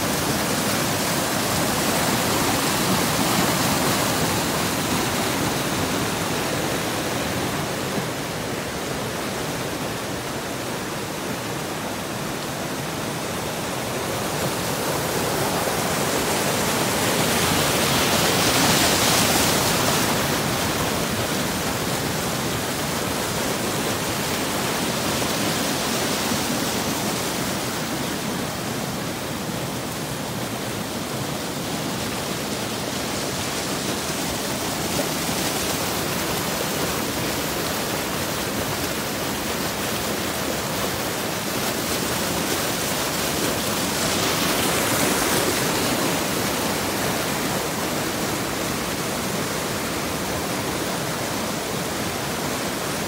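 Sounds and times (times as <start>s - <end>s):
floodwater rushing down stream: 0.0s - 53.0s.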